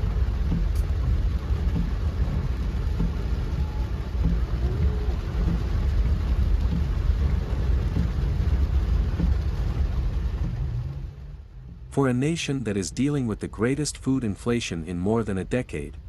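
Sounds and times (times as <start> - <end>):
low rumble: 0.0 - 16.0
rain hiss: 0.0 - 16.0.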